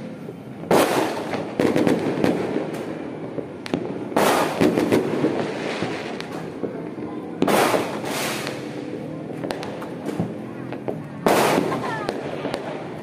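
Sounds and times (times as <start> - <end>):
fireworks popping and banging: 0.1 - 13.0.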